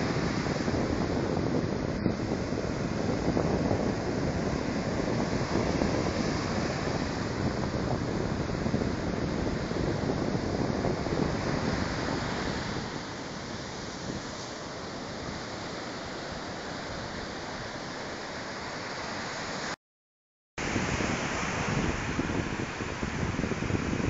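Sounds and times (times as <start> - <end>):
surf washing up beach: 0.0 - 19.8, 20.6 - 24.0.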